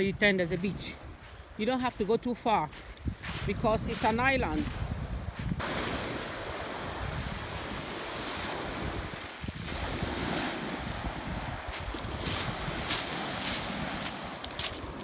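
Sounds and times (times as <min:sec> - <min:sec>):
wind buffeting microphone: 0:00.0 - 0:15.0
sea waves washing onto beach: 0:02.7 - 0:15.0.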